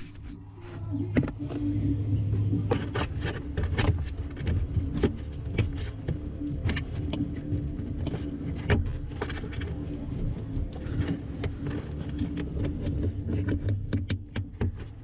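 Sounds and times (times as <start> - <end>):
connectors and cables rattling: 0.0 - 15.0
steady low hum: 0.0 - 15.0.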